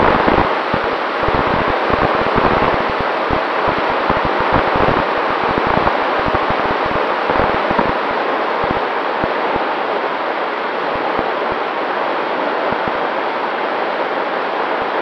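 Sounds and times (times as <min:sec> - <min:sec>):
wind rush over microphone: 0:00.0 - 0:15.0.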